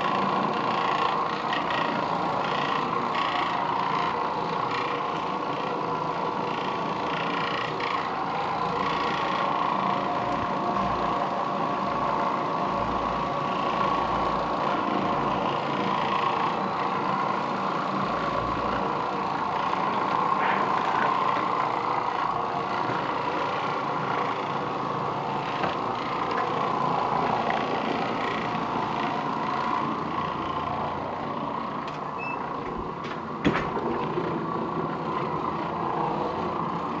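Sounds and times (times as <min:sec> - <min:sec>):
floor machine humming: 0:00.0 - 0:37.0.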